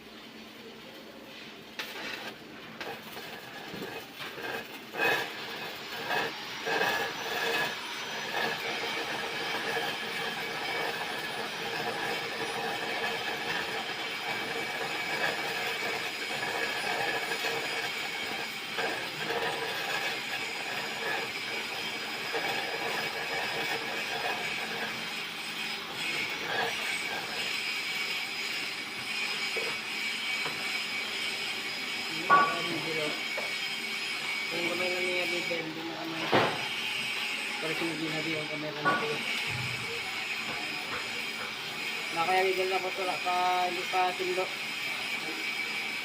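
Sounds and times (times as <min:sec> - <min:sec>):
welding arc crackling: 0:00.0 - 0:46.0.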